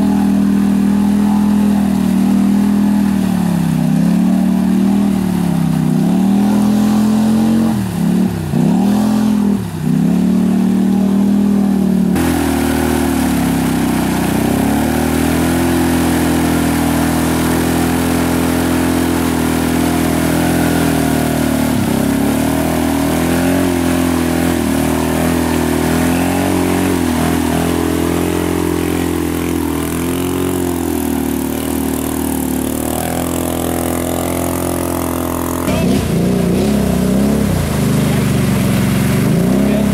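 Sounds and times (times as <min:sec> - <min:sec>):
atv engines revving high: 0:00.0 - 0:39.9
wheels spinning in mud: 0:00.0 - 0:39.9.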